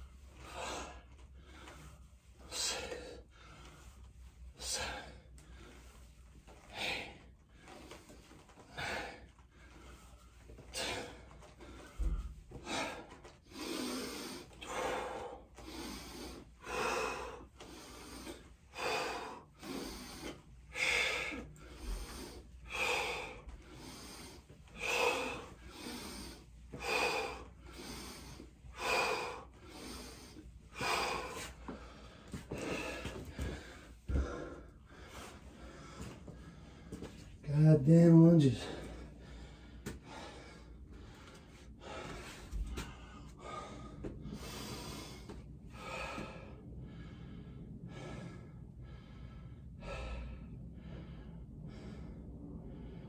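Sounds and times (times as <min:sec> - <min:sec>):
man breathing hard: 0:00.0 - 0:53.0.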